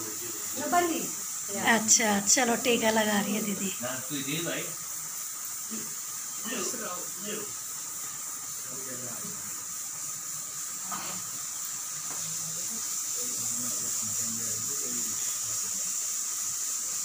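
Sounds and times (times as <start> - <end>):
high-pitched hiss: 0.0 - 17.0.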